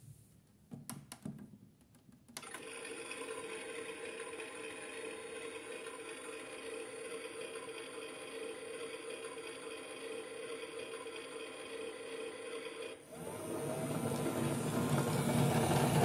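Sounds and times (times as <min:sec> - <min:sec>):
toy washing machine running: 0:02.4 - 0:16.0.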